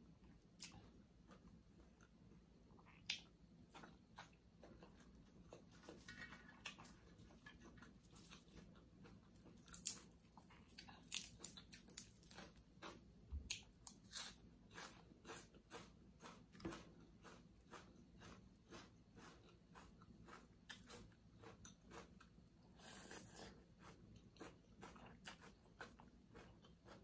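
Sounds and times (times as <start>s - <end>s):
chewing and crunching: 0.2s - 27.0s.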